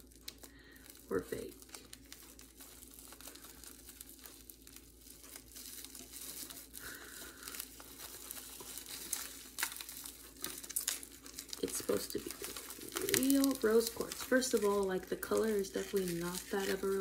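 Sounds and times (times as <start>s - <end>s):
paper and plastic crinkling: 0.0s - 17.0s
wrapping tearing: 0.0s - 17.0s.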